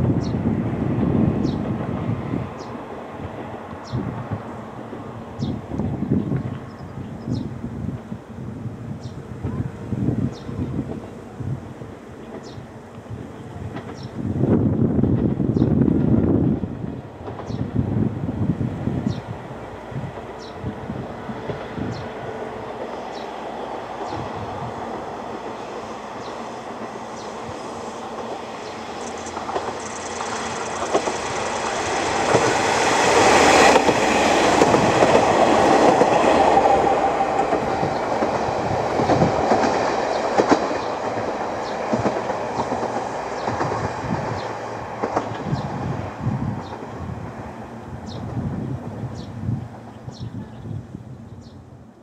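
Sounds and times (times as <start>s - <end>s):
diesel train passing: 0.0s - 52.0s.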